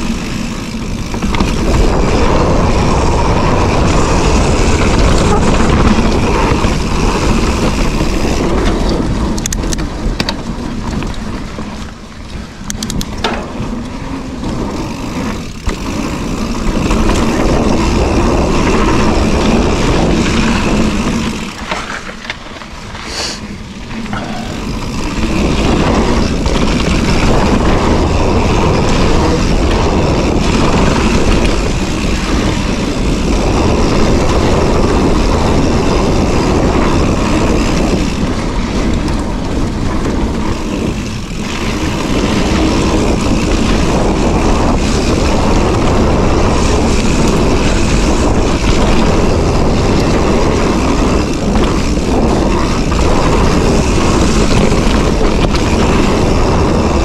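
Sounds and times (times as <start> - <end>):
bike clicks and rattles: 0.0 - 57.0
tyres rumbling on dirt: 0.0 - 57.0
wind rushing over microphone: 0.0 - 57.0.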